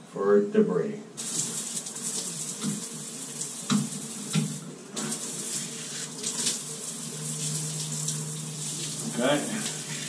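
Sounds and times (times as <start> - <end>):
shower spraying on tiles: 1.2 - 10.0.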